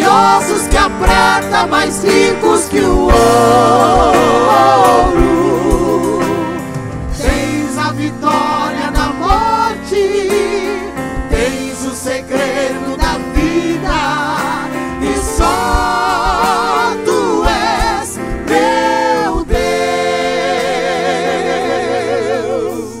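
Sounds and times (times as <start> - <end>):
vocal group singing in harmony: 0.0 - 23.0.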